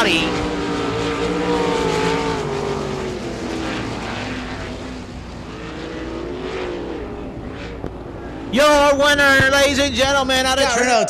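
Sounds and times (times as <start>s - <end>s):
race car engines passing: 0.0s - 11.0s.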